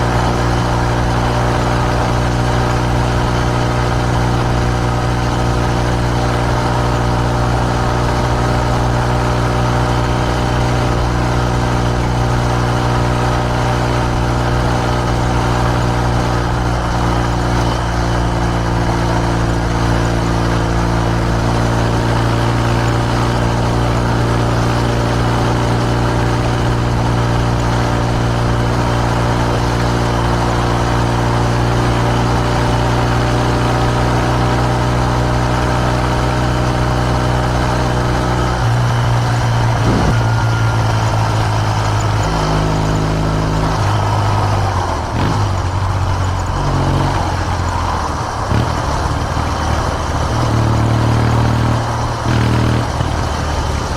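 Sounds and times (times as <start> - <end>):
motorcycle engine running steadily: 0.0 - 53.9.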